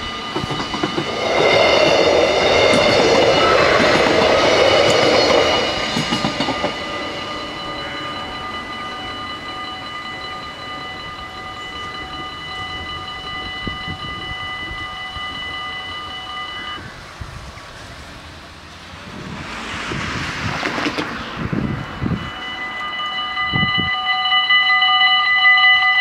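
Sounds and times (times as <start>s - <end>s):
level crossing warning bells ringing: 0.0s - 18.8s, 21.4s - 26.0s.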